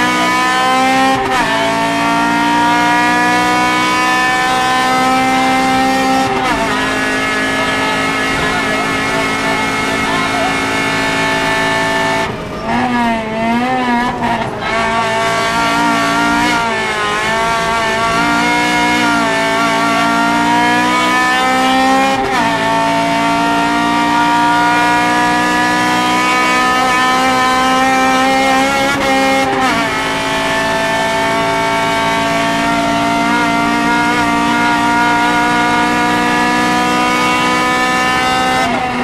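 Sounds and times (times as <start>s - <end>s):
car engine accelerating through gears: 0.0s - 39.0s.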